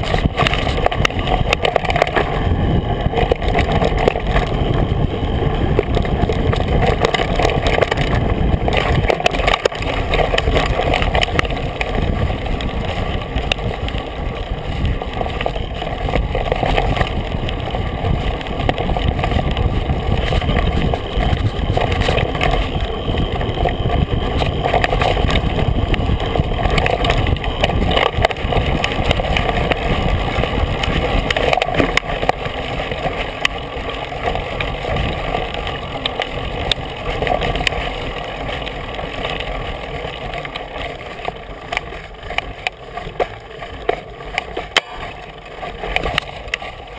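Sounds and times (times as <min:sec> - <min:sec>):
bike knocks and rattles: 0:00.0 - 0:46.9
wind rush on microphone: 0:00.0 - 0:46.9.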